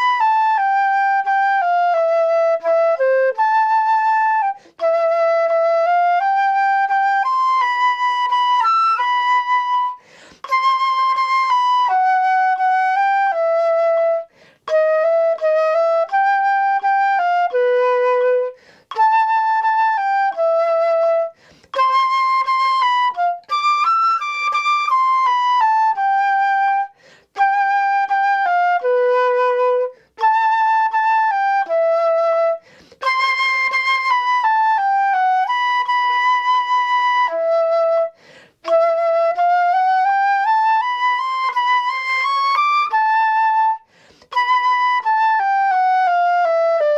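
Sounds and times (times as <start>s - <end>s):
solo flute melody: 0.0s - 46.9s.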